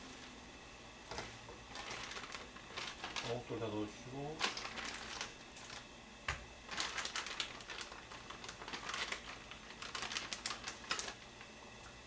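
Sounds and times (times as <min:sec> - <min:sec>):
plastic package crinkling: 0:01.1 - 0:05.9, 0:06.6 - 0:11.5.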